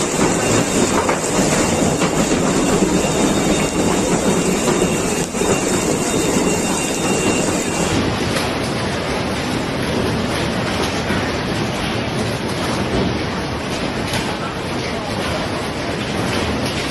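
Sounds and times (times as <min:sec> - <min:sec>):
heavy rain and hail clattering: 0:00.0 - 0:16.9
wind: 0:00.0 - 0:16.9.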